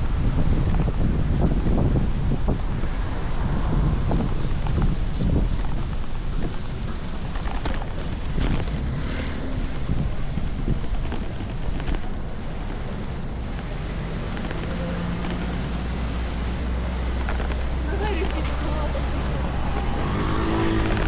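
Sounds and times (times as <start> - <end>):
low rumble: 0.0 - 21.0
wind buffeting microphone: 0.0 - 21.0.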